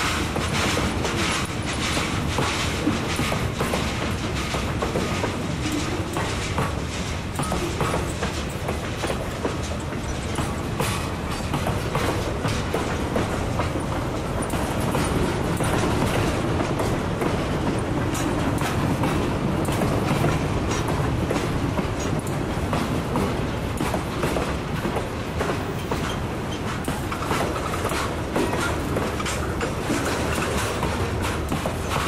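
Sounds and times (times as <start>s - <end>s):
steel wheels rumbling on rail: 0.0s - 32.0s
wheels clacking over rail joints: 0.0s - 32.0s.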